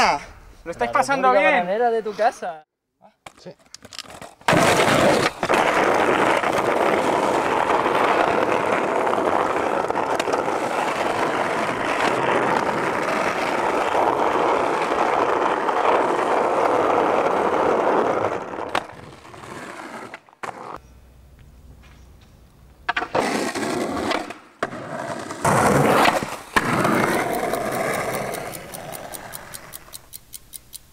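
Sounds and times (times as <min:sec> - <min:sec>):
skateboard wheels rolling on concrete: 0:03.3 - 0:30.0.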